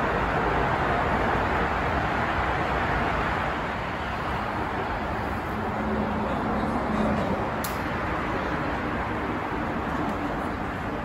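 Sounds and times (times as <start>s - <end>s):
rushing background noise: 0.0s - 11.0s.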